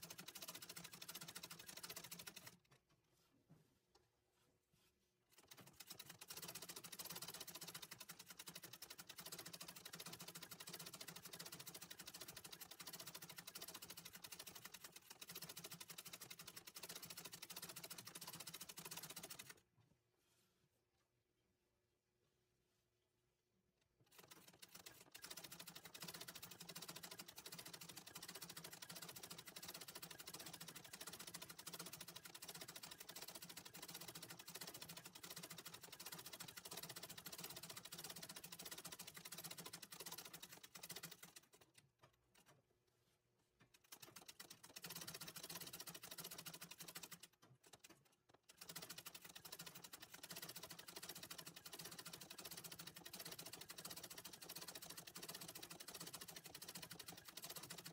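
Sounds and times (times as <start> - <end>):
treadle sewing machine stitching: 0.0 - 2.6, 5.3 - 19.6, 24.0 - 42.5, 43.7 - 57.9.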